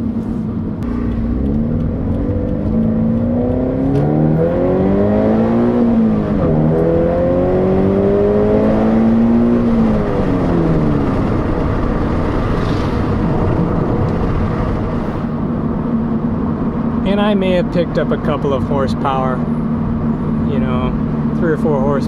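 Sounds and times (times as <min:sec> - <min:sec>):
car exhaust under acceleration: 0:00.0 - 0:22.0
road and tyre noise: 0:00.0 - 0:22.0.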